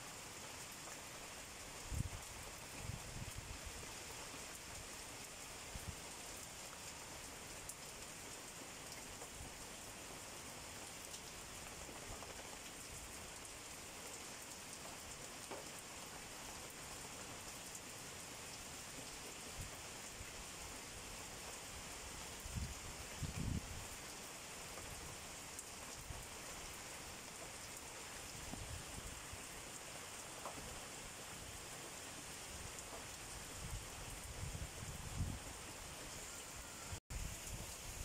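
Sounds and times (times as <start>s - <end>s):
rain falling on leaves: 0.0s - 38.0s.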